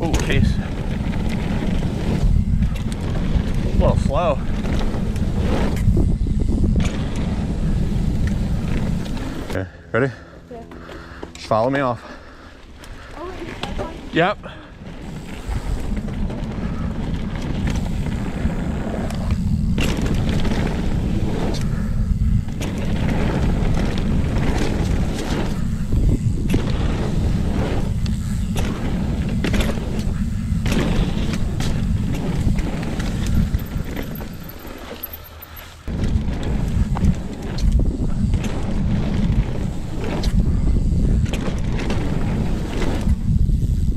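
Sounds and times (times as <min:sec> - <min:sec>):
bike clattering over bumps: 0:00.0 - 0:09.6, 0:12.4 - 0:43.6
wind rumble on microphone: 0:00.0 - 0:09.6, 0:13.0 - 0:35.0, 0:35.8 - 0:43.9
bike tyre noise: 0:00.0 - 0:43.9.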